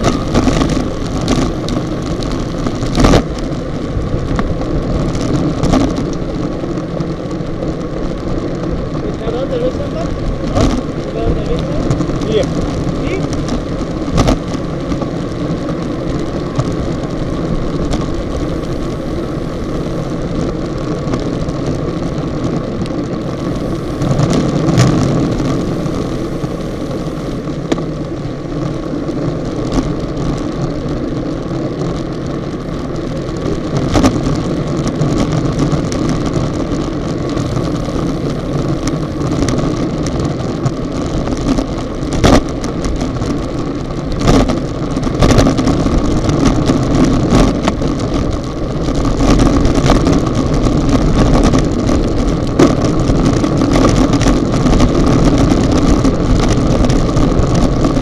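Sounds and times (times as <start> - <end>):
tyres on asphalt: 0.0 - 58.0
wind rush: 0.0 - 58.0.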